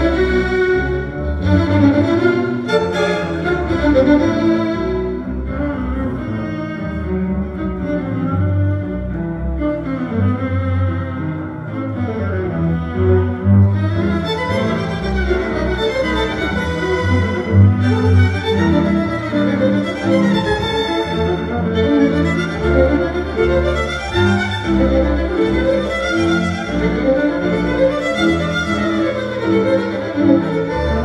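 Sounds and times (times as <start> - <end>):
string ensemble playing tango: 0.0 - 31.0.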